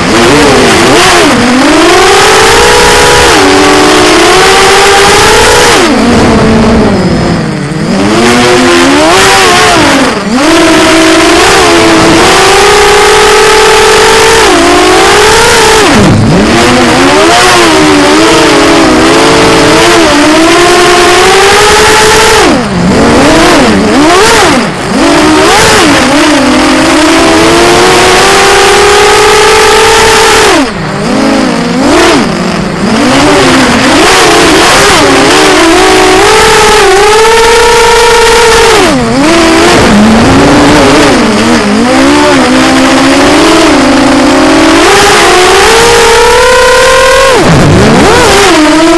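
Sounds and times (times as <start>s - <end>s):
drone motors whining: 0.0s - 48.9s.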